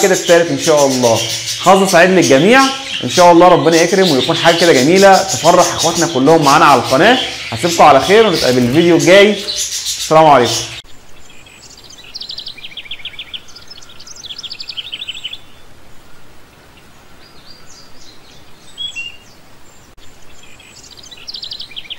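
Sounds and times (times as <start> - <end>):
cage birds chirping: 0.0 - 21.9
room noise hiss: 0.0 - 21.9.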